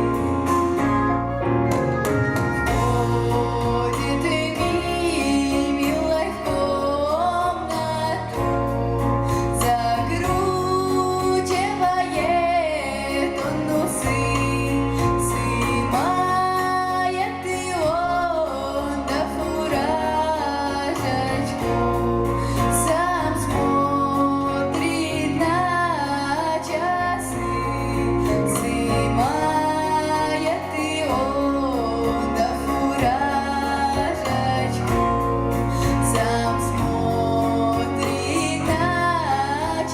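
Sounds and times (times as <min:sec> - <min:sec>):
instrumental accompaniment with bass: 0:00.0 - 0:39.9
woman singing with vibrato: 0:00.0 - 0:39.9.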